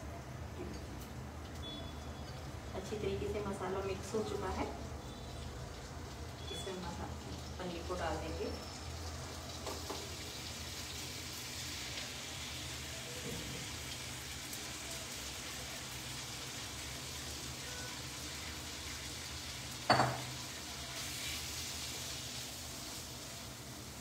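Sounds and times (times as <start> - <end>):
paneer sizzling in a pan: 0.8 - 24.0.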